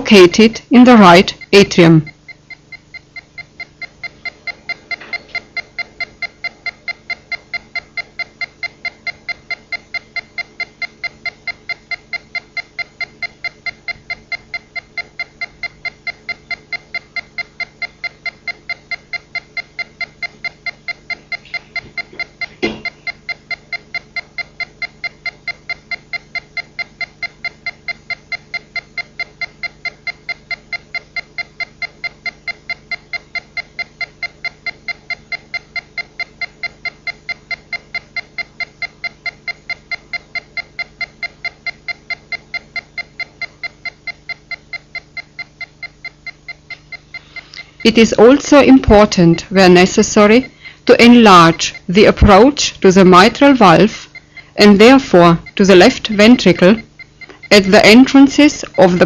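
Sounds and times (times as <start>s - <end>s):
rapid electronic beeps: 0.0s - 59.0s.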